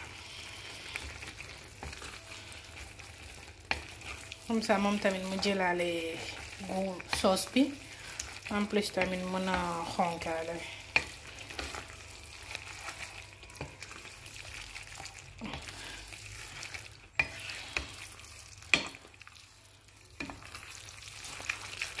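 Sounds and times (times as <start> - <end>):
food cooking in a frying pan: 0.0 - 22.0.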